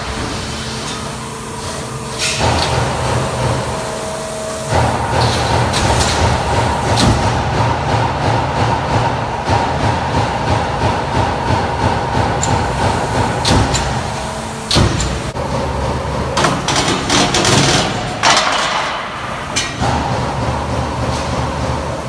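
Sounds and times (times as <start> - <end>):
punch press humming: 0.0 - 22.0.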